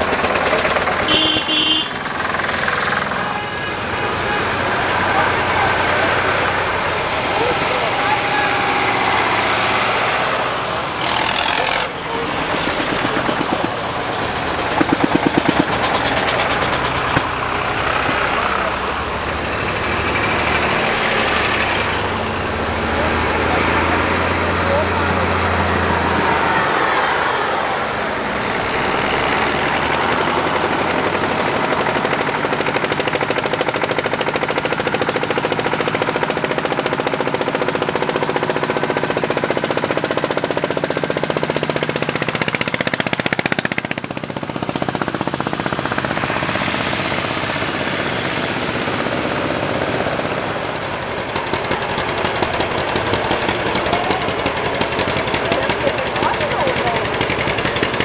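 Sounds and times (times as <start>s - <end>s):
vintage engine popping: 0.0s - 58.0s.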